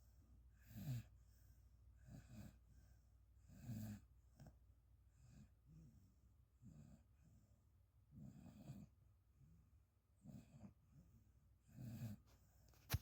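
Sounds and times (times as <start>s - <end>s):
dog snoring: 0.6s - 1.2s, 2.0s - 12.3s.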